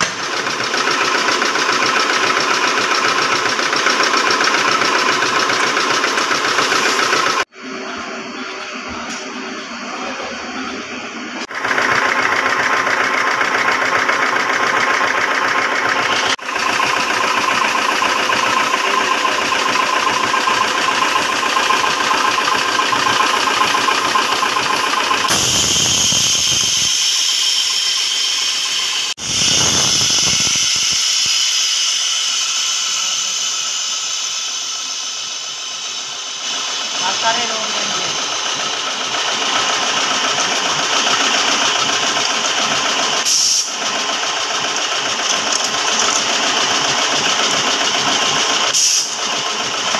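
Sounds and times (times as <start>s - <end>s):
machinery droning: 0.0s - 49.9s.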